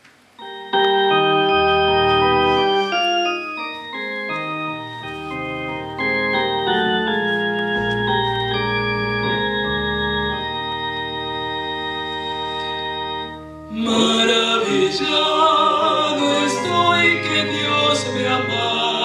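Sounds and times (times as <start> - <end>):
organ chords: 0.3 - 19.0.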